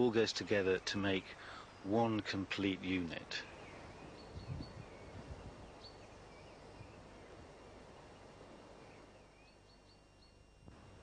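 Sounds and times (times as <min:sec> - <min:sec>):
small birds chirping faintly: 0:00.0 - 0:11.0
steady low hiss: 0:00.0 - 0:11.0.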